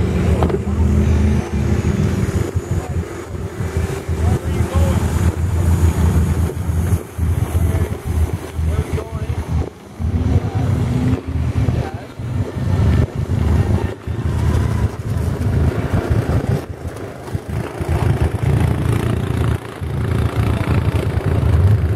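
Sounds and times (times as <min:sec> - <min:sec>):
off-road vehicle engines running: 0:00.0 - 0:21.9.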